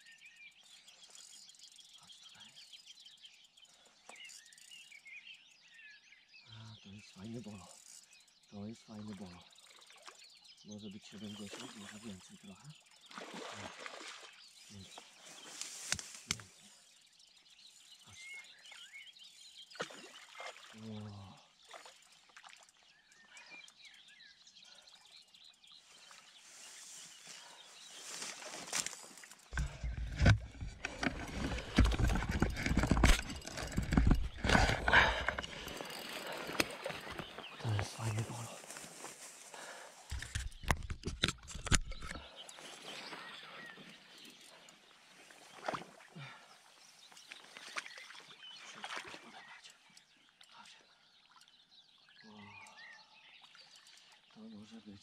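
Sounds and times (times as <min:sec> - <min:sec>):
faint birdsong: 0:00.0 - 0:55.0.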